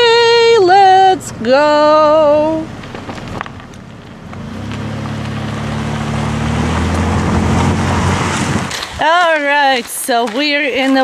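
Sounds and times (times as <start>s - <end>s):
road and wind noise: 0.0s - 11.0s
vehicle engine humming: 0.0s - 11.0s.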